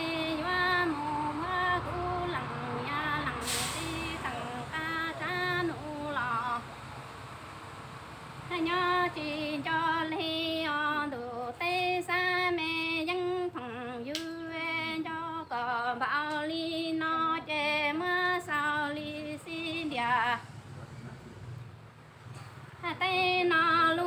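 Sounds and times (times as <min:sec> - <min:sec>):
woman singing unaccompanied: 0:00.0 - 0:06.9, 0:08.3 - 0:20.5, 0:22.8 - 0:24.0.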